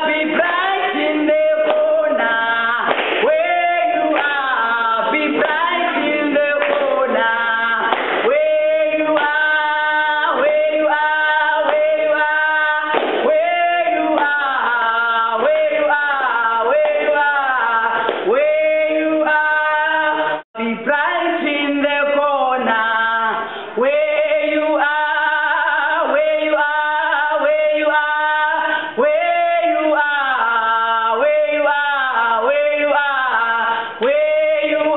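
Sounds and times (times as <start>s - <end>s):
two women singing: 0.0s - 34.9s.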